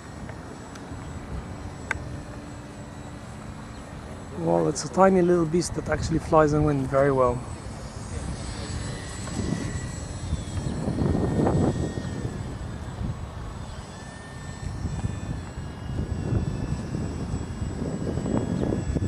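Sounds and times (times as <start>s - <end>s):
electric motor and propeller whining: 0.0s - 19.0s
wind buffeting microphone: 0.0s - 19.0s.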